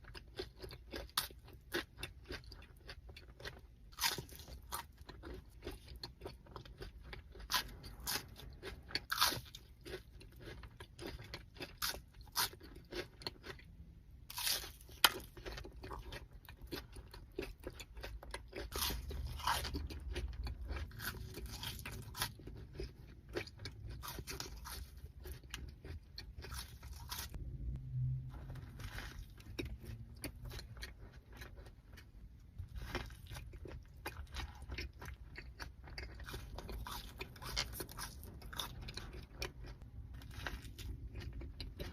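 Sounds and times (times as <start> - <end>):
person chewing crunchy food: 0.0 - 27.7, 28.3 - 41.9.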